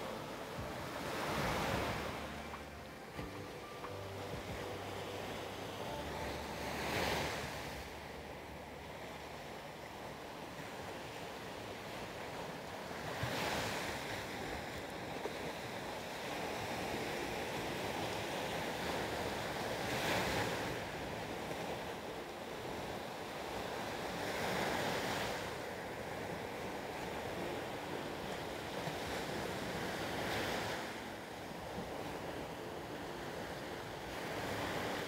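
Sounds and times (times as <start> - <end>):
sea waves breaking on beach: 0.0 - 35.0.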